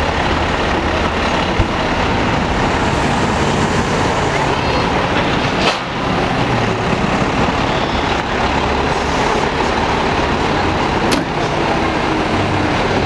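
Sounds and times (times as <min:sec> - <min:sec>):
diesel engine idling: 0:00.0 - 0:13.0
passing street traffic: 0:00.0 - 0:13.0.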